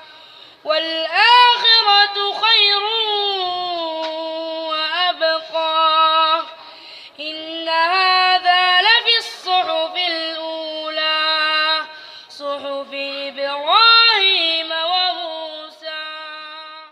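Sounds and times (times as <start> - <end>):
child chanting recitation: 0.7 - 6.6, 7.2 - 16.9.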